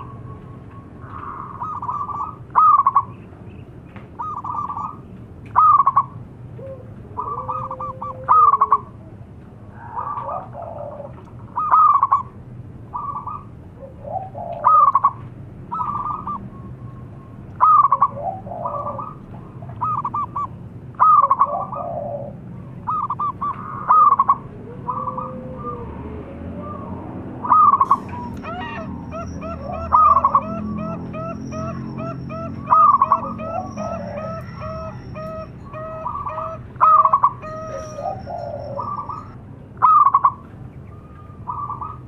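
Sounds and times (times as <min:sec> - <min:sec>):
dove staccato cooing: 0:00.0 - 0:03.2, 0:04.1 - 0:16.7, 0:17.5 - 0:40.5.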